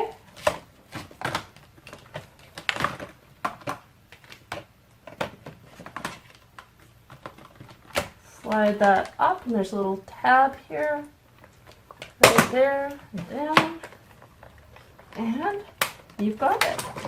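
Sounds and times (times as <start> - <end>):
plastic parts clicking and knocking: 0.3 - 9.6, 10.6 - 17.0.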